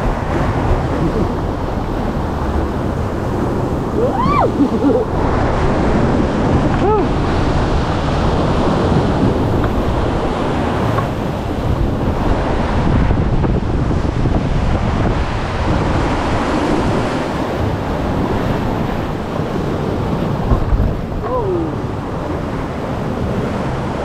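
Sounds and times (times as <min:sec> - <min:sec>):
rushing whitewater: 0:00.0 - 0:24.0
wind buffeting microphone: 0:00.0 - 0:24.0.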